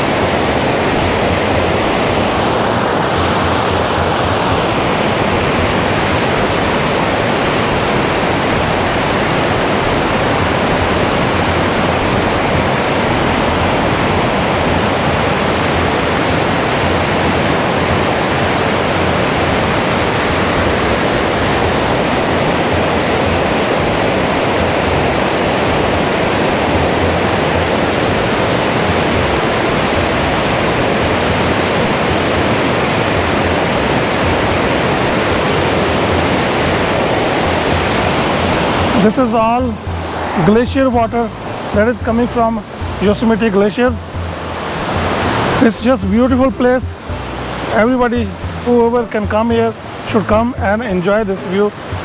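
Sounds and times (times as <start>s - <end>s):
river rapids rushing: 0.0s - 52.0s.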